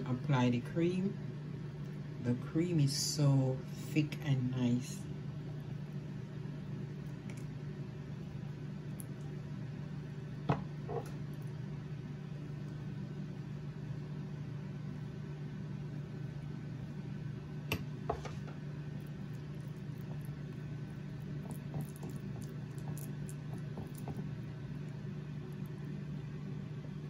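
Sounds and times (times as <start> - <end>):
low kitchen hum: 0.0 - 27.0.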